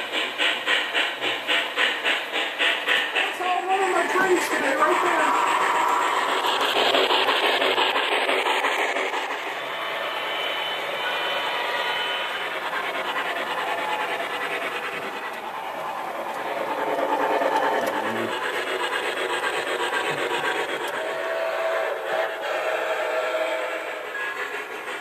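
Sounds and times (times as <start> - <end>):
model train wheels rolling on rails: 0.0 - 25.0.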